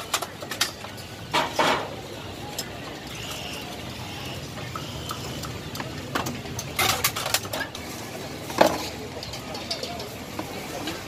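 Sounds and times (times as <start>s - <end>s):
busy food stall background noise: 0.0s - 11.0s.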